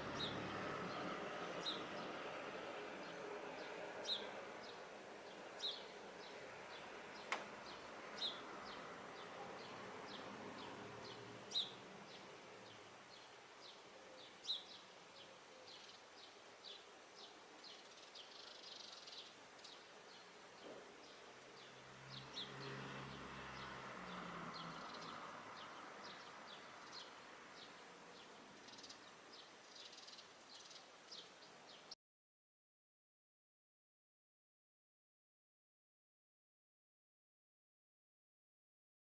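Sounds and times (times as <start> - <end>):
sparrows chirping: 0.0 - 31.9.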